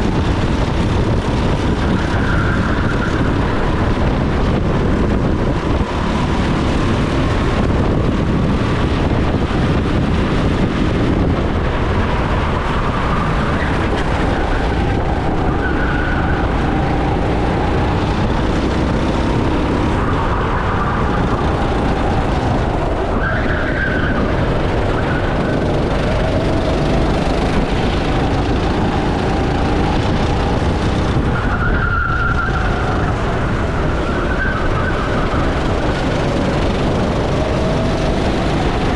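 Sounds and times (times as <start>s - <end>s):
go-kart engine revving: 0.0s - 38.9s
wind and chassis rumble: 0.0s - 38.9s.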